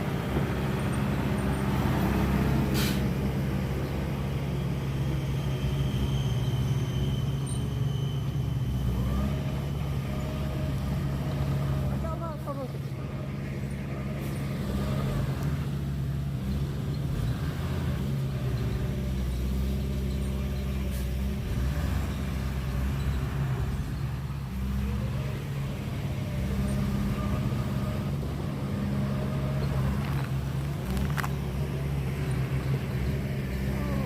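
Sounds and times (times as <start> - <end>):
heavy diesel engine droning: 0.0 - 34.0.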